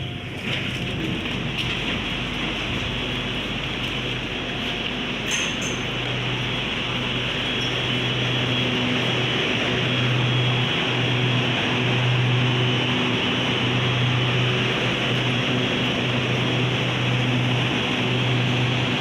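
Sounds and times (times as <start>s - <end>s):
electric train humming and rushing: 0.0s - 19.0s.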